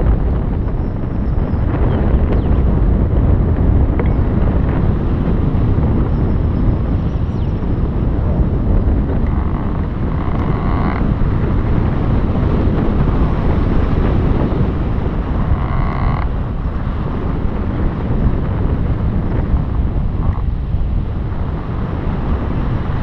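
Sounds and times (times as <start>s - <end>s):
strong wind on microphone: 0.0s - 23.0s.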